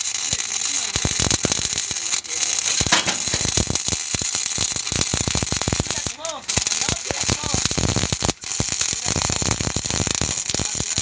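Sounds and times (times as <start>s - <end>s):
steady hiss: 0.0s - 11.0s
welding arc crackling and popping: 0.0s - 11.0s.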